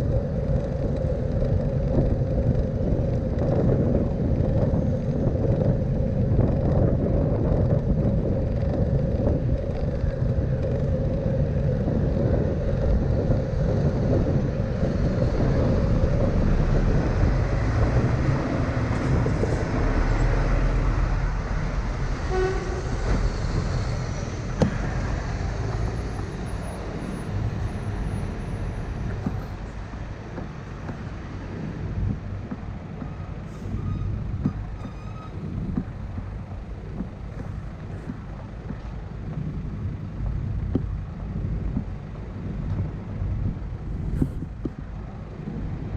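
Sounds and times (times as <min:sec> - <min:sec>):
city street traffic: 0:00.0 - 0:45.9
wind rumbling on microphone: 0:00.0 - 0:45.9.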